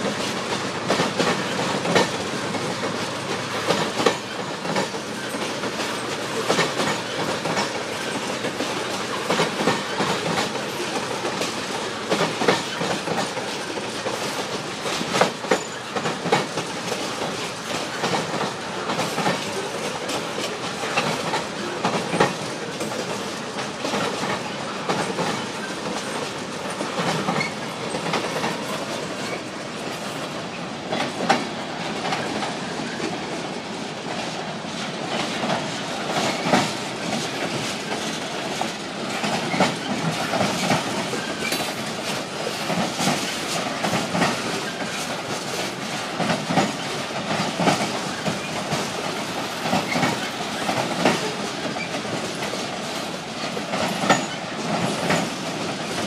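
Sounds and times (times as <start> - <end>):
train wheels rumbling on rails: 0.0 - 56.0
wheels clicking over rail joints: 0.0 - 56.0.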